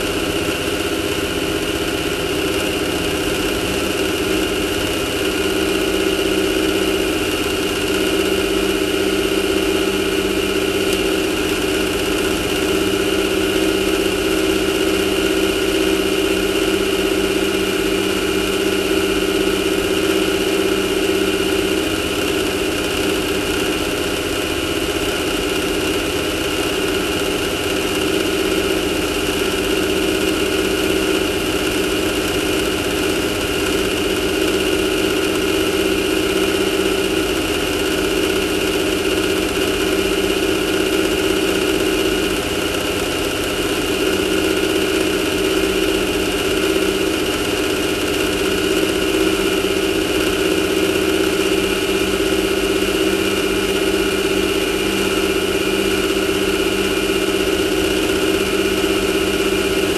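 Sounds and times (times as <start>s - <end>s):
race car engine idling: 0.0s - 59.9s.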